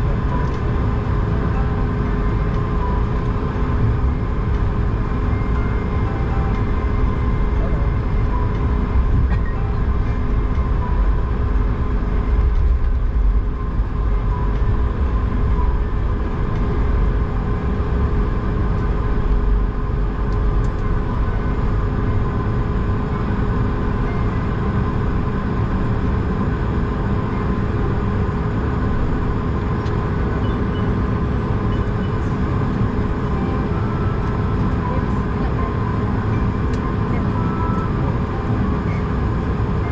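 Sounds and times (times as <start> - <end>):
aircraft cabin low rumble: 0.0 - 39.9
steady mid-pitched hum: 0.0 - 39.9.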